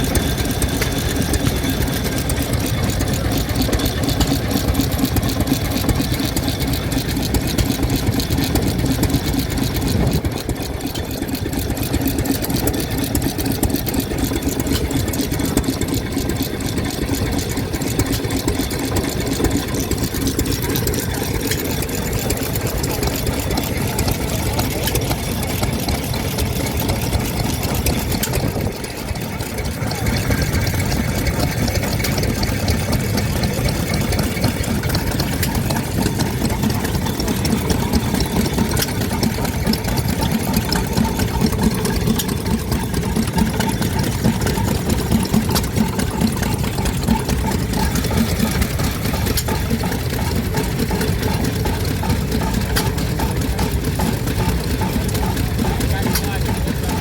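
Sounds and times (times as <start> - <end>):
stationary engines running: 0.0 - 57.0.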